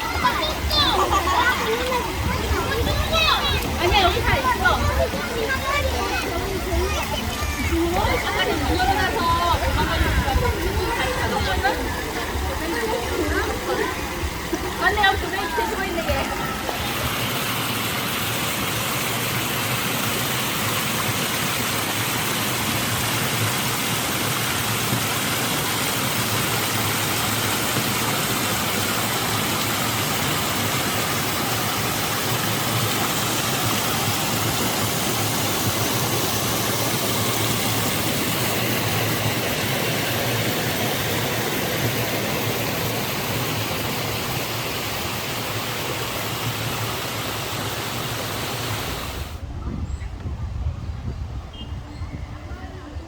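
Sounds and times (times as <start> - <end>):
mountain stream rushing: 0.0 - 49.5.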